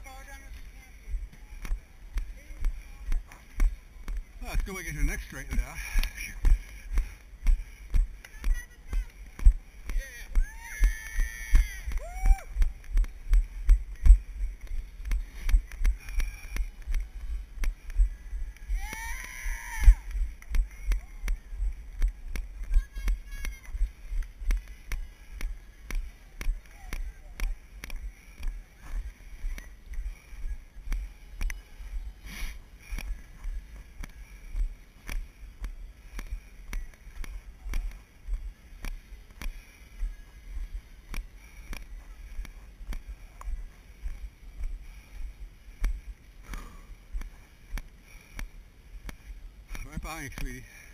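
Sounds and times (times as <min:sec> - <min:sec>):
running footsteps on dirt: 0:00.0 - 0:50.9.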